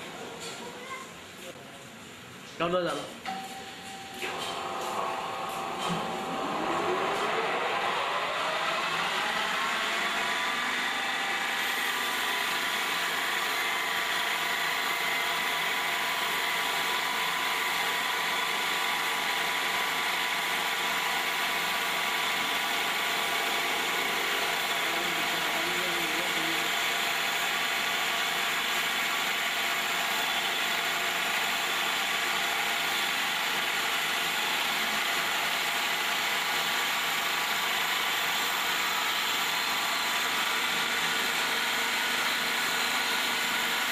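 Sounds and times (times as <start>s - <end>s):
lathe motor whine: 4.2s - 43.9s
rushing machining noise: 4.2s - 43.9s.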